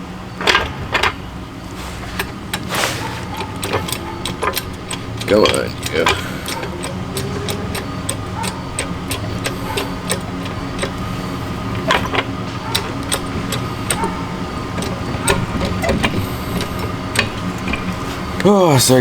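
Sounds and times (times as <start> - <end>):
steady low hum: 0.0 - 19.0
car jack clicking: 0.3 - 19.0.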